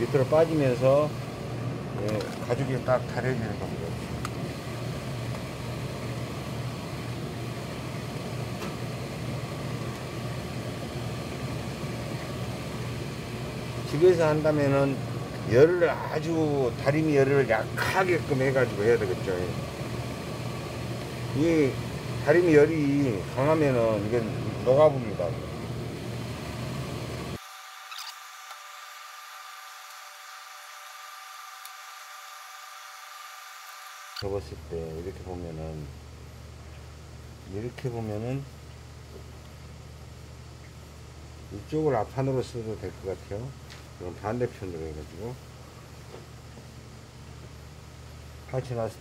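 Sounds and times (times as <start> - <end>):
steady low hum with hiss: 0.0 - 49.0.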